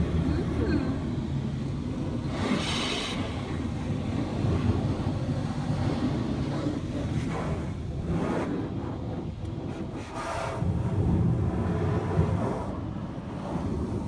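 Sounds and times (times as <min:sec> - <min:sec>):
car wash machinery rumbling: 0:00.0 - 0:14.0.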